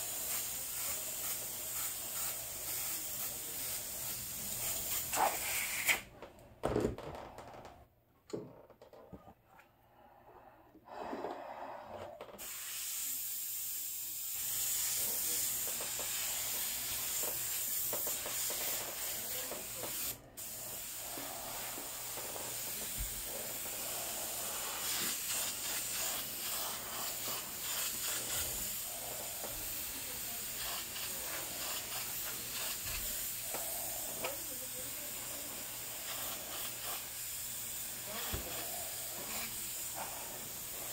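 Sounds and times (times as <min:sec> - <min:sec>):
airbrush air hiss: 0:00.0 - 0:06.0, 0:12.4 - 0:40.9.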